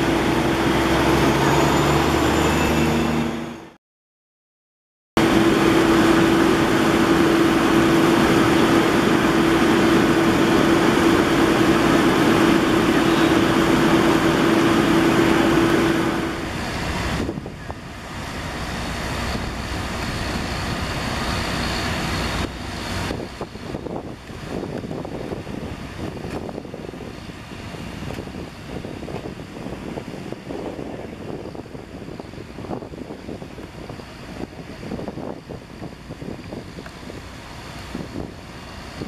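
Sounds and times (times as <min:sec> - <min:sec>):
truck engines humming: 0:00.0 - 0:03.8, 0:05.2 - 0:39.0
wind: 0:00.0 - 0:03.8, 0:05.2 - 0:39.0.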